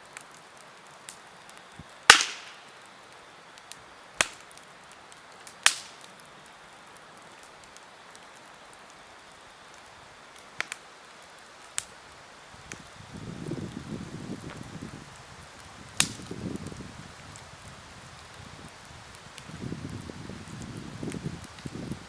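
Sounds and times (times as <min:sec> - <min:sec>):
campfire pops: 0:00.0 - 0:22.0
fire hissing: 0:00.0 - 0:22.0.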